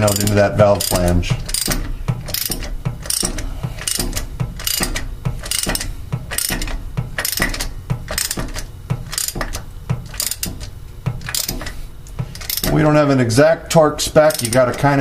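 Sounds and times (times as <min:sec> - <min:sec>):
ratchet wrench clicking: 0:00.0 - 0:12.9, 0:14.2 - 0:15.0.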